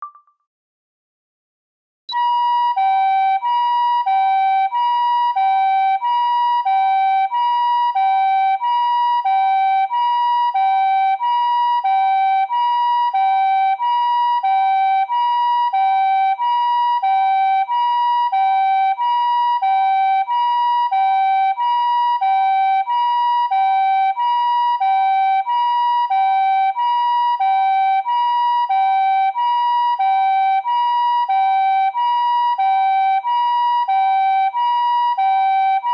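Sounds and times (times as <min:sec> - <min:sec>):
two-tone ambulance siren: 0:02.1 - 0:35.9.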